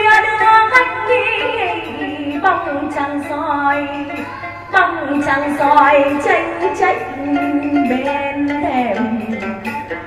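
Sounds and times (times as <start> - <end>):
woman singing: 0.0 - 9.9.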